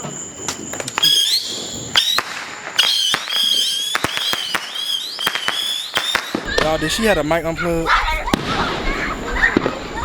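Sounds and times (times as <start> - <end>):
fireworks bangs and cracks: 0.0 - 10.0
rising firework whistles: 0.0 - 10.0.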